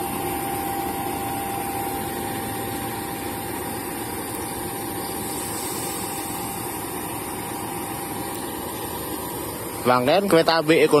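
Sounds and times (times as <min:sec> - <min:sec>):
engine running with whine: 0:00.0 - 0:11.0.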